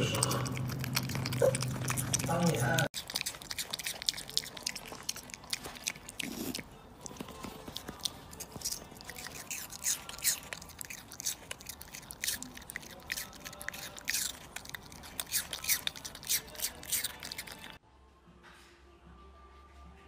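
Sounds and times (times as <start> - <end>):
crunchy food being chewed: 0.0 - 17.8.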